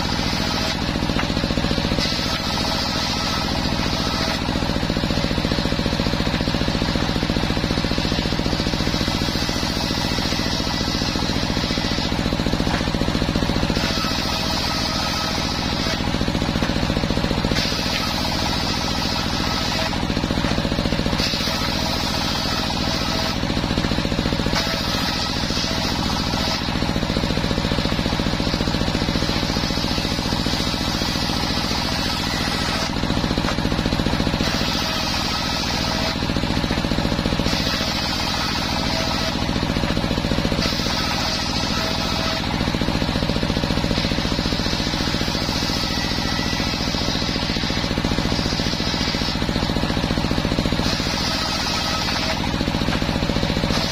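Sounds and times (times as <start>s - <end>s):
saw blade whining through wood: 0.0s - 53.9s
table saw engine thumping: 0.0s - 53.9s.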